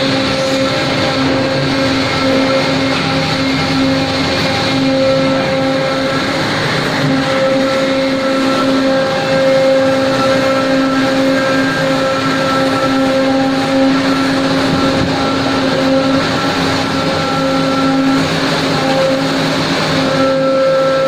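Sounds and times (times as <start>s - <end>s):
constant rush of noise: 0.0s - 21.0s
machine drone with hum: 0.0s - 21.0s.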